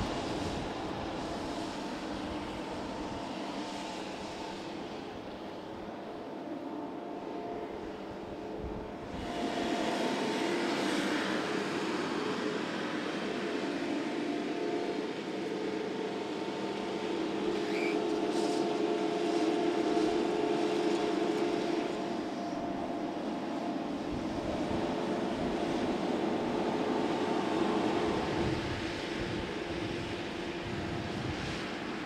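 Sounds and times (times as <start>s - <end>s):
mower engine drone: 0.0s - 32.0s.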